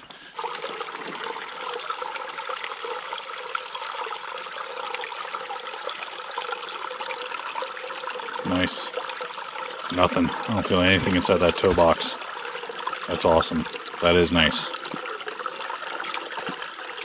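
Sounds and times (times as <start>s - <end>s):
creek water running over rocks: 0.4s - 17.0s.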